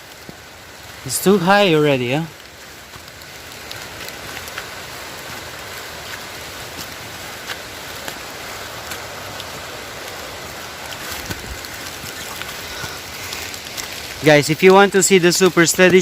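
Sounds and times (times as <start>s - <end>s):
falling water hissing: 0.0s - 16.0s.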